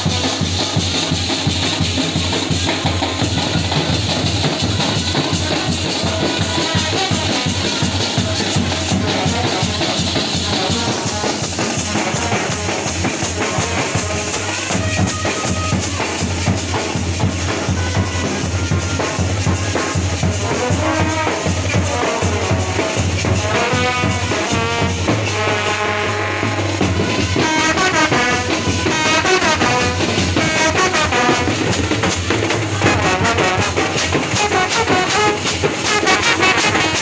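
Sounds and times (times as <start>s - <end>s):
brass band playing: 0.0s - 37.0s
steady drum beat: 0.0s - 37.0s.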